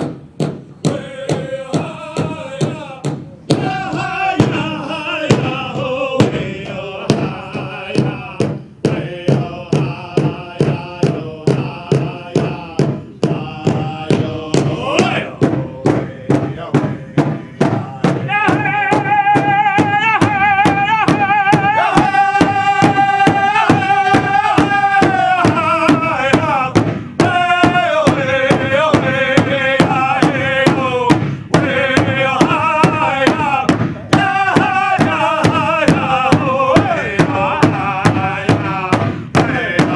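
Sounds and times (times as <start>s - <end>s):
large drum beating: 0.0s - 39.9s
men singing high-pitched chant: 0.8s - 39.9s.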